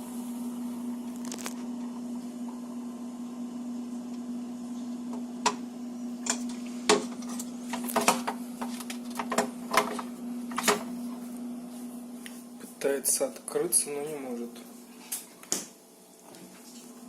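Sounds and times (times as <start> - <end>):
refrigerator hum: 0.0 - 17.0.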